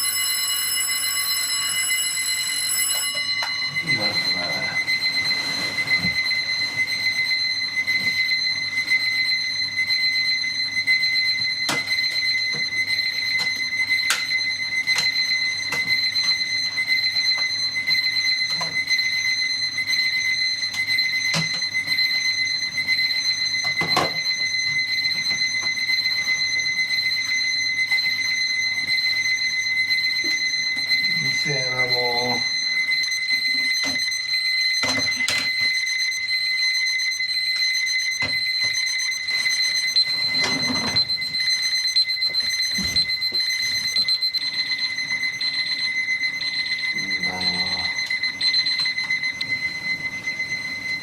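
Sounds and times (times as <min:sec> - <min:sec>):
alarm clock ringing: 0:00.0 - 0:51.0.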